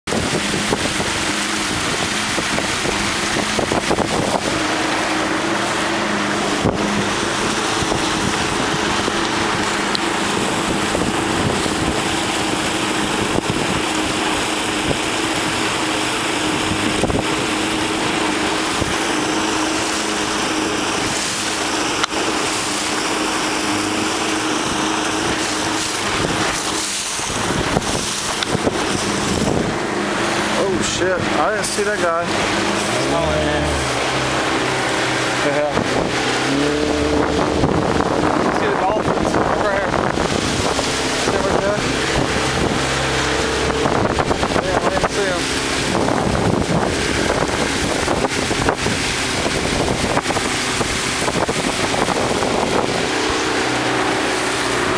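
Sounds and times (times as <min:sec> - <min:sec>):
motorboat engine running: 0:00.0 - 0:54.9
wind buffeting microphone: 0:00.0 - 0:54.9.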